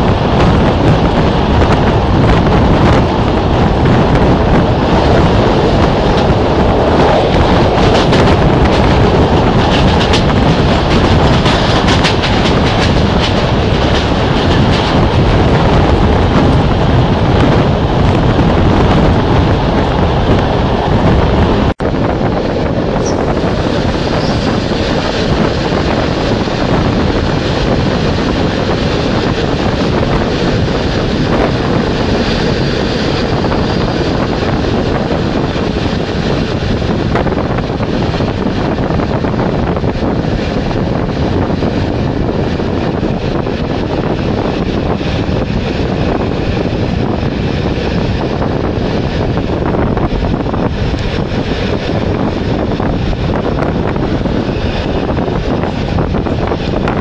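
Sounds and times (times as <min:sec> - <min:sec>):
train running noise: 0:00.0 - 0:57.0
wind buffeting microphone: 0:00.0 - 0:57.0.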